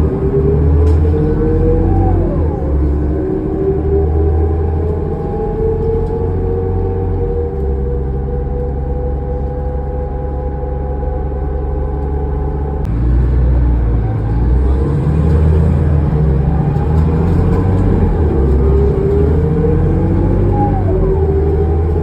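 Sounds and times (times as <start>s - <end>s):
bus engine rumble: 0.0s - 22.0s
drivetrain whine: 0.0s - 22.0s.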